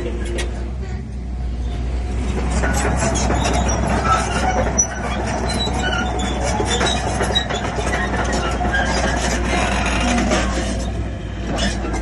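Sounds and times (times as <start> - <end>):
bulldozer diesel engine running: 0.0 - 12.0
track rollers squealing: 1.5 - 12.0
steel tracks clanking: 1.8 - 12.0.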